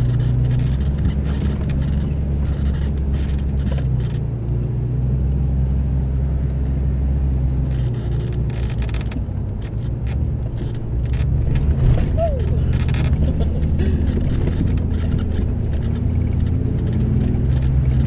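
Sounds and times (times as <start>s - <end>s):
body knocks and rattles: 0.0s - 4.3s, 7.7s - 18.0s
car engine low rumble: 0.0s - 18.0s.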